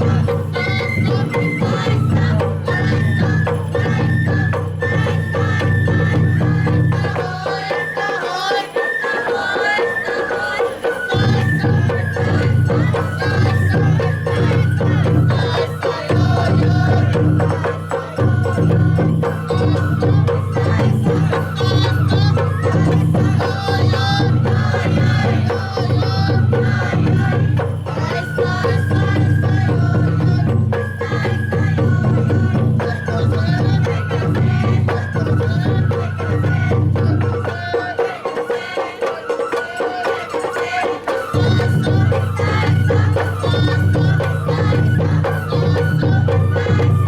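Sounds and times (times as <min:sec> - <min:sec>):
high bamboo flute melody: 0:00.0 - 0:47.0
rapid drum and metal percussion: 0:00.0 - 0:47.0.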